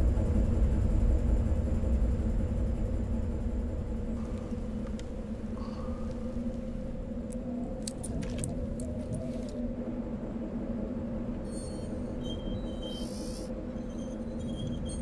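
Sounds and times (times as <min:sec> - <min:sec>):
low ambient drone: 0:00.0 - 0:15.0.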